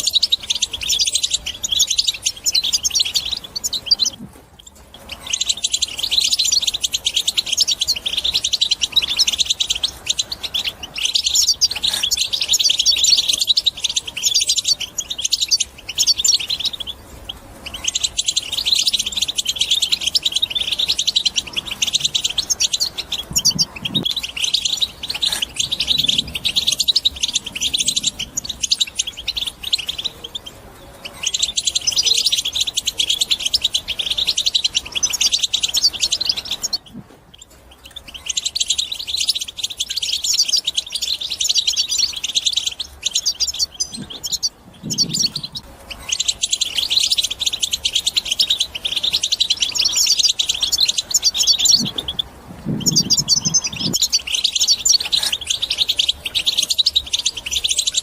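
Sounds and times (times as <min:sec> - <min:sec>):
goldfinch jingling twitter: 0:00.0 - 0:58.0.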